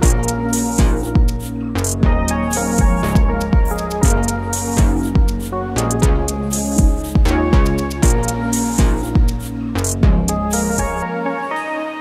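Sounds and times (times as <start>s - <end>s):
electronic kick drum beats: 0.0s - 11.1s.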